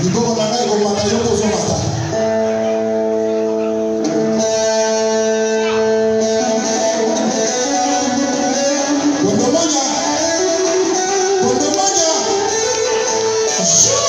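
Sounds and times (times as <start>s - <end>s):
live band with guitars: 0.0s - 14.0s.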